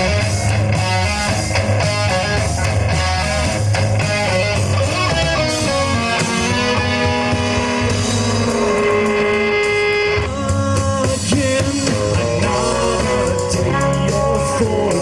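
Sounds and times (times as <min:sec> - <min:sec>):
bass guitar: 0:00.0 - 0:15.0
electric guitar: 0:00.0 - 0:15.0.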